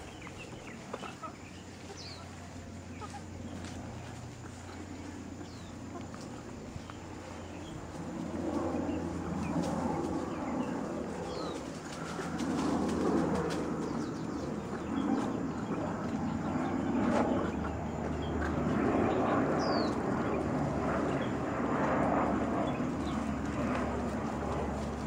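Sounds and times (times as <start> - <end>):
birds cooing and chirping: 0.0 - 25.0.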